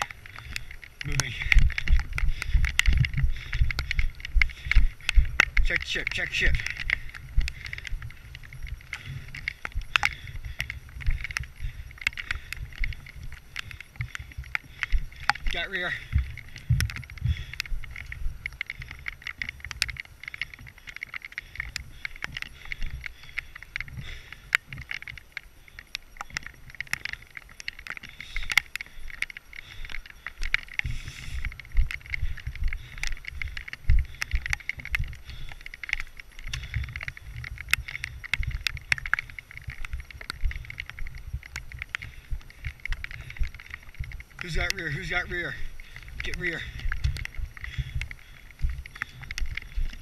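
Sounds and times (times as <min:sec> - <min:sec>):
footsteps: 0:00.0 - 0:50.0
gear rattling: 0:00.0 - 0:50.0.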